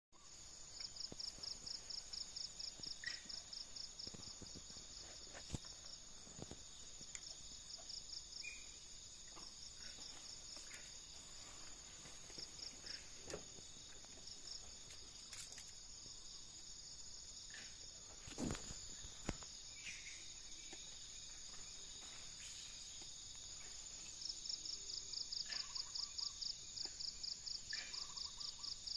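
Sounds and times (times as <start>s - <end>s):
crickets chirping: 0.2s - 28.9s.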